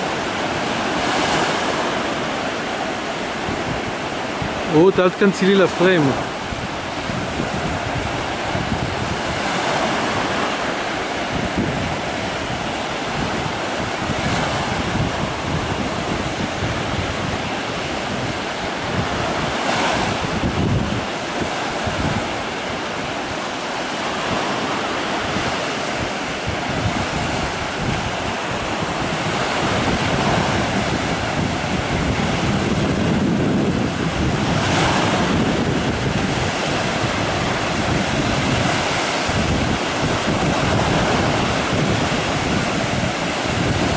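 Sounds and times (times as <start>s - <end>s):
sea waves breaking on sand: 0.0s - 43.9s
wind buffeting microphone: 0.0s - 43.9s.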